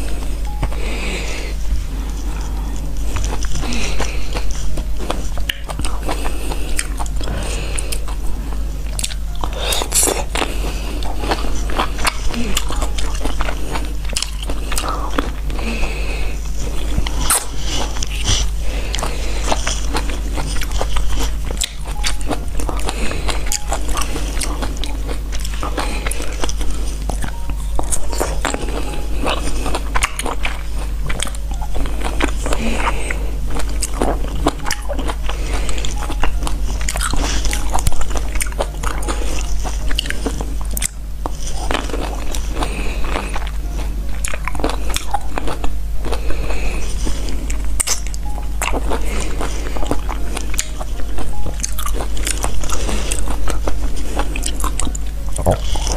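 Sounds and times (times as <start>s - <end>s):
chewing fruit: 0.0s - 55.9s
low hum: 0.0s - 55.9s.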